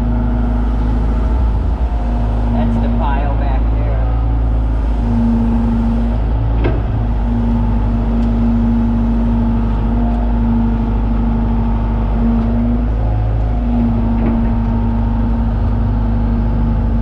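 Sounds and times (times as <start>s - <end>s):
excavator diesel engine running: 0.0s - 17.0s
humming tone: 0.0s - 17.0s.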